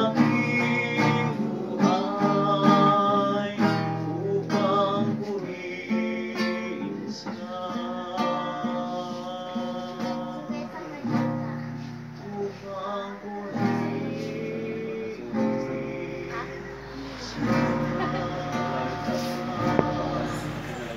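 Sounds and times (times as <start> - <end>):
acoustic guitar strumming: 0.0 - 20.9
group singing slow melody: 0.0 - 20.9.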